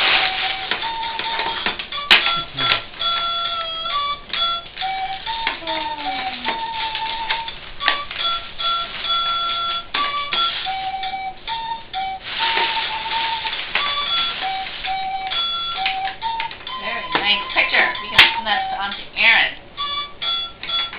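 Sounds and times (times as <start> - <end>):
toy harp notes: 0.0 - 20.9.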